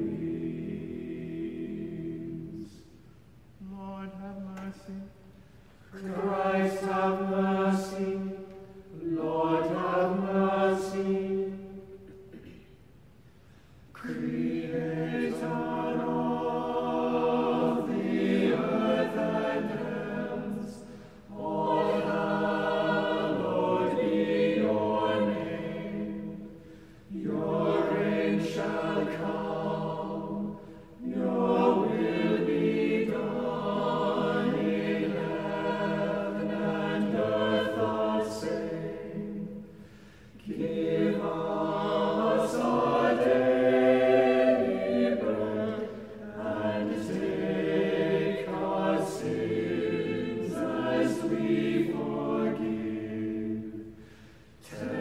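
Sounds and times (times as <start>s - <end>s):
unaccompanied choir singing: 0.0s - 3.0s, 5.8s - 12.7s, 13.9s - 55.0s.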